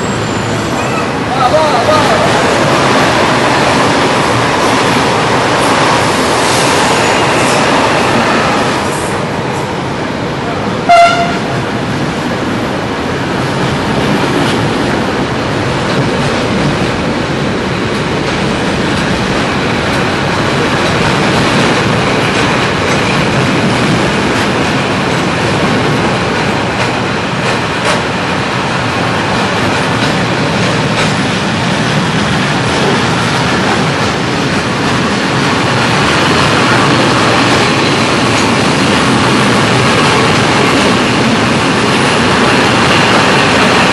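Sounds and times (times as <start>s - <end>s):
steel wheels rumbling on rail: 0.0s - 43.9s.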